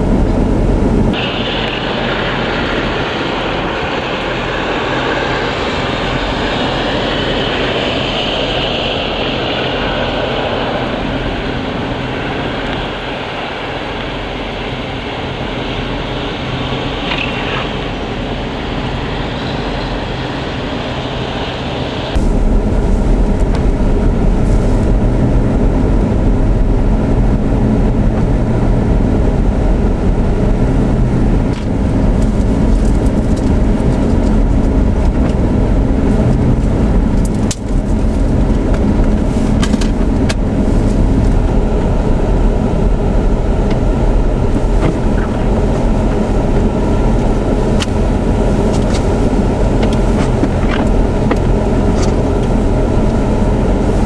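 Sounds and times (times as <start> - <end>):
car engine and tyres on snow: 0.0 - 54.0.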